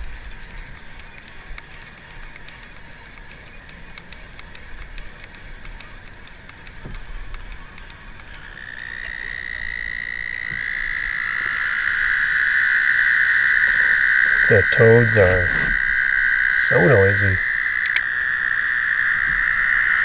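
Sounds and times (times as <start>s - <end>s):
toads trilling: 0.0s - 20.0s.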